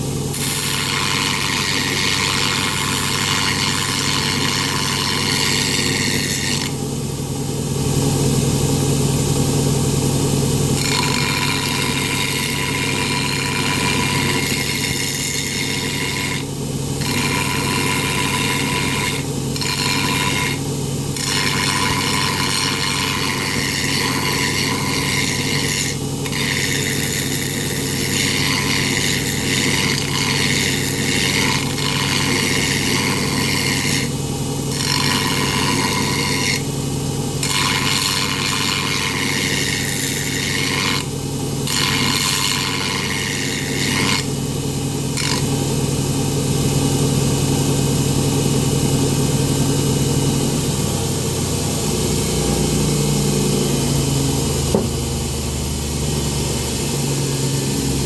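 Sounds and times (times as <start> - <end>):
grinder motor hum: 0.0 - 58.0.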